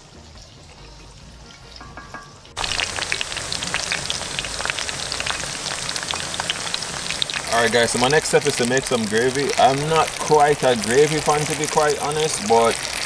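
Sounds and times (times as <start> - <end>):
plantain sizzling in hot oil: 0.0 - 13.0
oil spitting and popping: 1.7 - 13.0.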